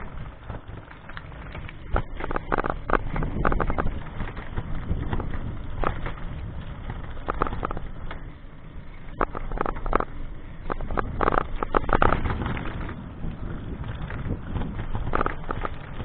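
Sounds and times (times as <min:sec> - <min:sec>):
camera clattering and rattling: 0:00.0 - 0:16.0
wind rumble on microphone: 0:00.0 - 0:16.0.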